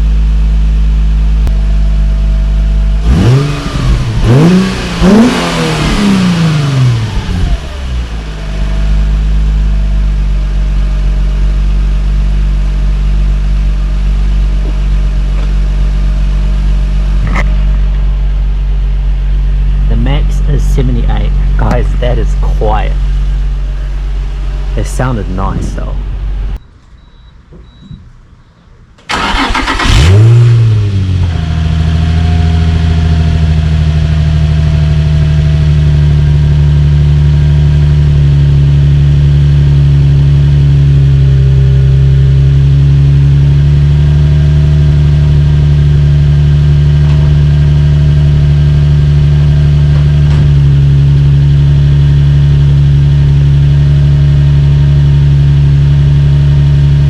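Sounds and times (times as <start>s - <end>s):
car engine starting and idling: 0.0s - 28.2s, 28.8s - 57.0s.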